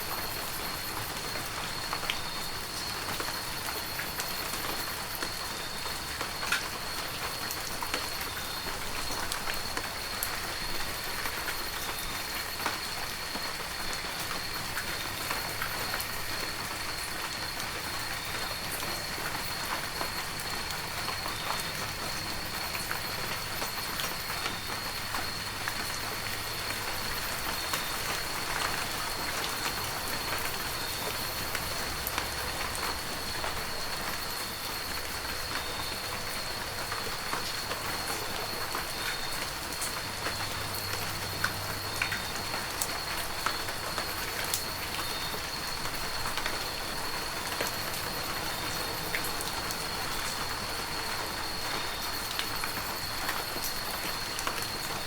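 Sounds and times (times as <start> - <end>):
heavy rain falling: 0.0 - 55.0
raindrops ticking on surfaces: 0.0 - 55.0.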